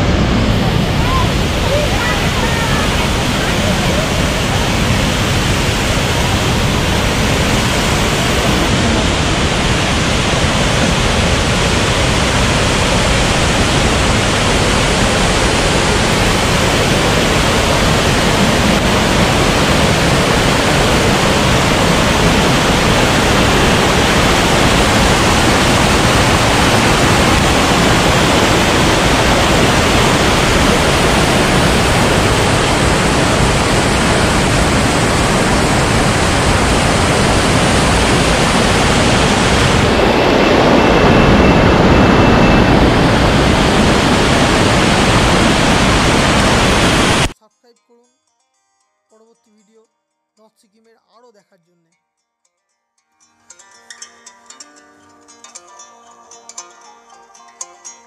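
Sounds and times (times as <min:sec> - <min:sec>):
stream rushing over boulders: 0:00.0 - 0:47.4.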